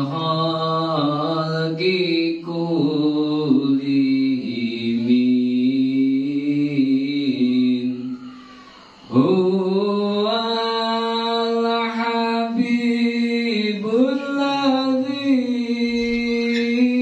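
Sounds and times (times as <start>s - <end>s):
man chanting devotional song: 0.0s - 17.0s.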